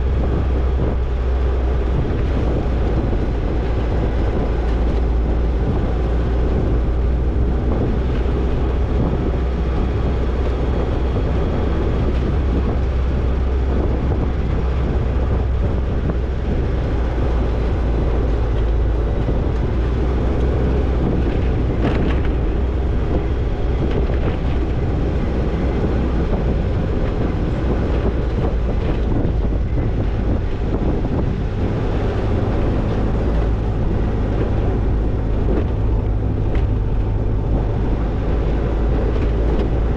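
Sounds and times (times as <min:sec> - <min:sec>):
car engine and drivetrain: 0:00.0 - 0:39.9
rattling over rough ground: 0:00.0 - 0:39.9.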